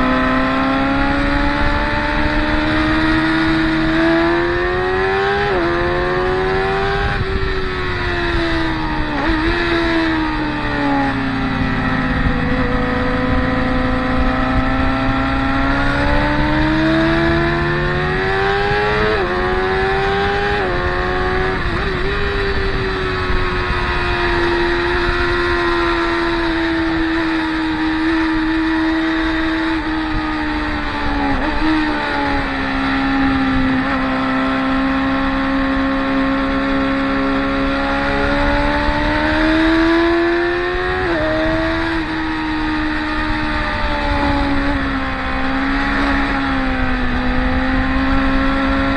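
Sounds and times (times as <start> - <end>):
racing motorcycle engine high revs: 0.0 - 48.9.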